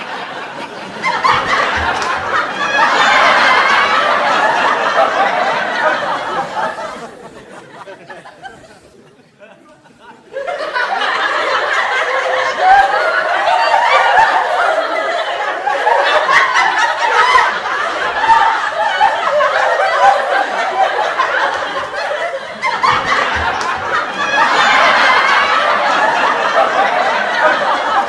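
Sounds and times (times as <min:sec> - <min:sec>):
audience laughter: 0:00.0 - 0:28.0.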